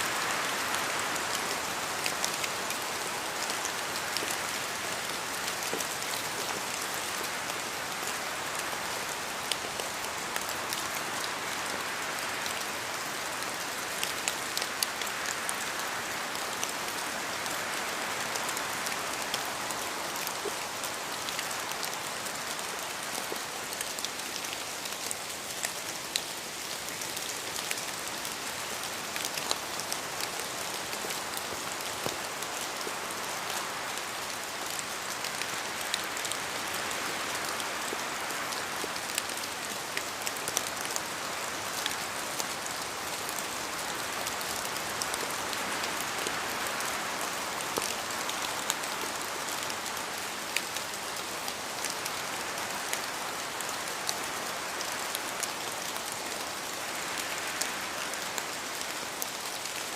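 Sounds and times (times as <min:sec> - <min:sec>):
rain hissing in a forest: 0:00.0 - 0:59.9.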